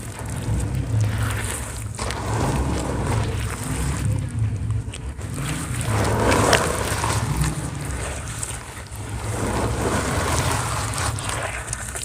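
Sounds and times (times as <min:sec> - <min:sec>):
cement crumbling gritty hiss: 0:00.0 - 0:12.0
small crackles: 0:00.0 - 0:12.0
steady low rumble: 0:00.0 - 0:12.0.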